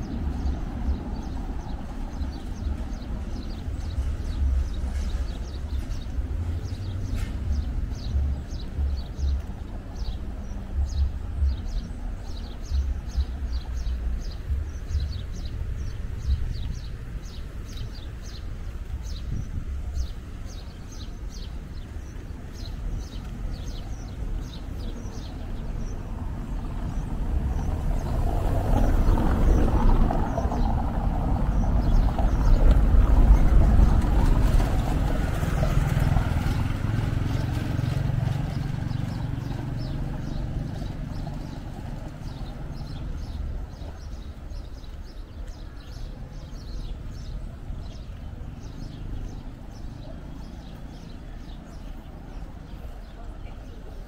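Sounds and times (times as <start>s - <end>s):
motor vehicle passing: 0.0s - 54.0s.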